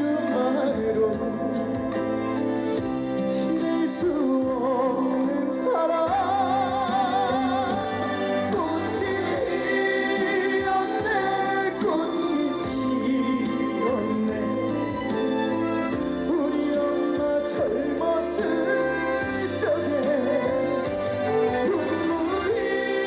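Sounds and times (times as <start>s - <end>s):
live ballad with band: 0.0s - 23.0s
singing with vibrato: 0.0s - 23.0s.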